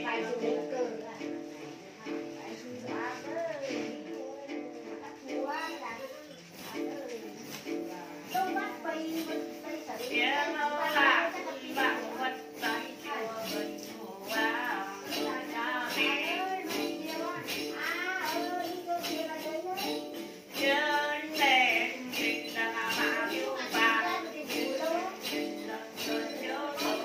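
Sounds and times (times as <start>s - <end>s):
jingle bells shaken: 0.0s - 27.0s
plucked lute: 0.0s - 27.0s.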